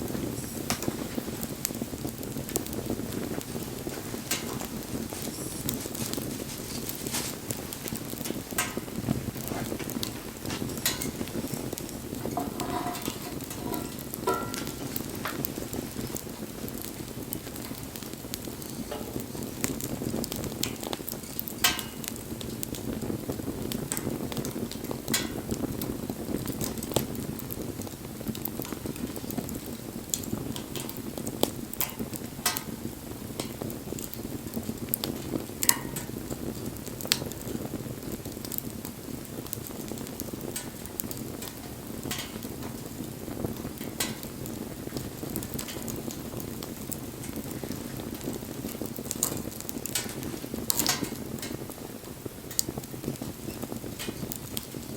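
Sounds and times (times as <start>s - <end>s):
campfire flames rushing: 0.0s - 54.9s
fire crackling and popping: 0.0s - 54.9s.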